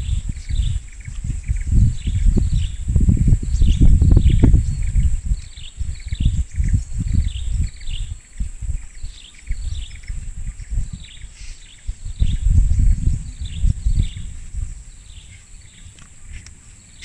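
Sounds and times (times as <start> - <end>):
birds chirping: 0.0 - 17.0
low rumbling on microphone: 0.0 - 17.0.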